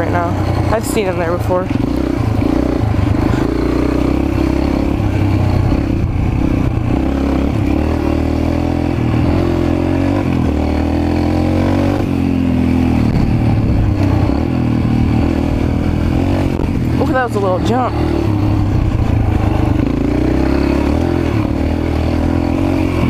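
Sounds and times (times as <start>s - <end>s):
small motorbike engine revving: 0.0s - 23.0s.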